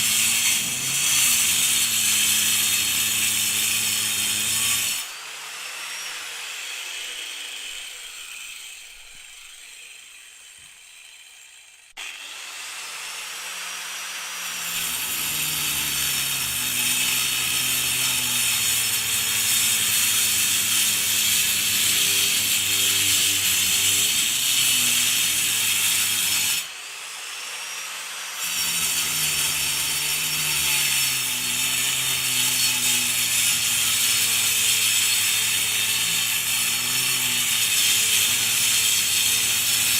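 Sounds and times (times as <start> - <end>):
angle grinder cutting concrete: 0.0 - 39.9.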